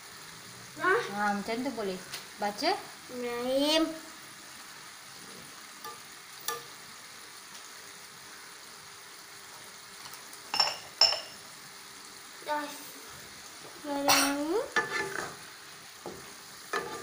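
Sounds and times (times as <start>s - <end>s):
sauce bubbling and sizzling in wok: 0.0s - 17.0s.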